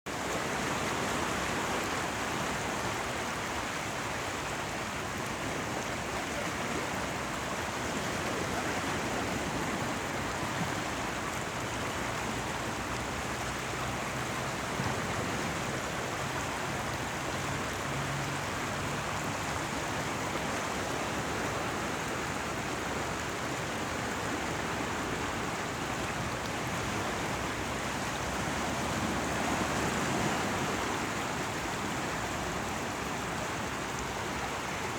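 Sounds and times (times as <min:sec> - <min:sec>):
running water and waves: 0:00.1 - 0:34.9.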